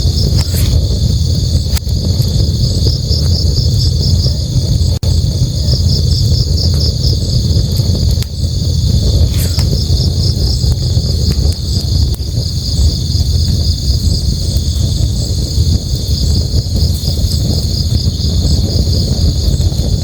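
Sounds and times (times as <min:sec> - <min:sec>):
campfire crackling: 0:00.0 - 0:20.0
crickets chirping: 0:00.0 - 0:20.0.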